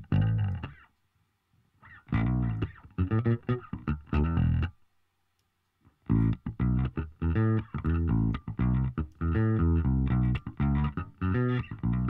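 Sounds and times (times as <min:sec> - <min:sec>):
plucked electric string notes: 0:00.0 - 0:00.8, 0:01.8 - 0:04.7, 0:06.0 - 0:12.0.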